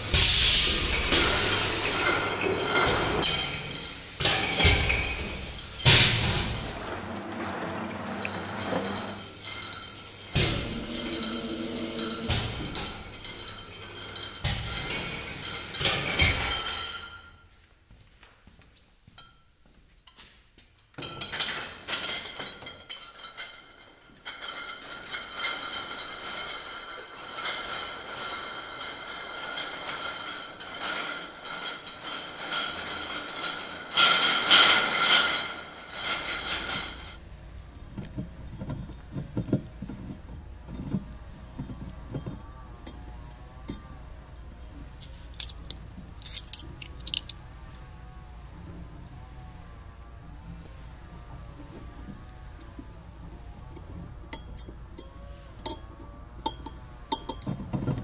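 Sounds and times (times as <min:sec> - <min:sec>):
glass bottles clinking in a cage: 0:00.0 - 0:17.5, 0:19.2 - 0:20.2, 0:21.0 - 0:48.4, 0:49.2 - 0:58.0
casters rolling on brick floor: 0:00.0 - 0:58.0.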